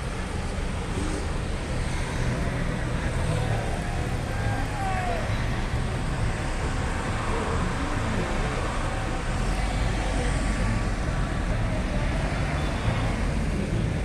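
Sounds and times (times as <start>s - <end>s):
car engines and tyres on road: 0.0s - 14.0s.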